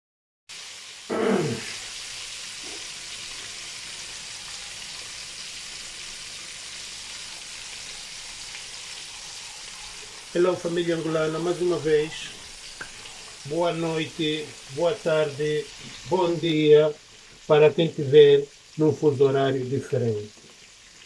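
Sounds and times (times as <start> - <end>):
background hiss: 0.5 - 21.0.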